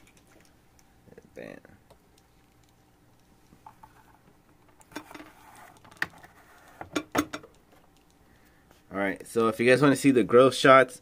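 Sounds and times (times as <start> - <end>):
faint pump hum: 0.0 - 11.0.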